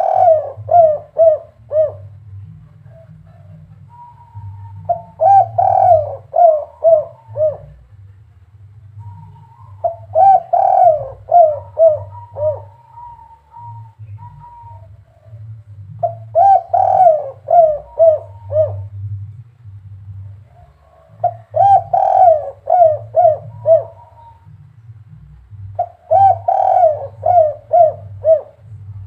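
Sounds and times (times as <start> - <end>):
dove cooing: 0.0 - 8.1, 8.9 - 29.0.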